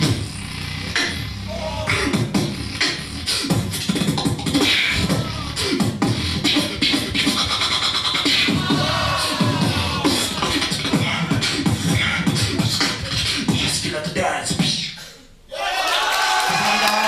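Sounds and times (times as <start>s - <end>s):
sliding pitched vocal effects: 0.0s - 3.8s, 4.6s - 15.2s
beatbox kick and snare: 0.0s - 15.2s.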